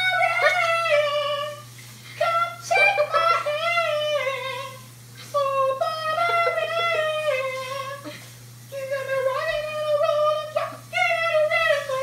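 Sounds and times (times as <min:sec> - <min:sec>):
faint low hum: 0:00.0 - 0:12.0
person singing wordless melody: 0:02.2 - 0:12.0.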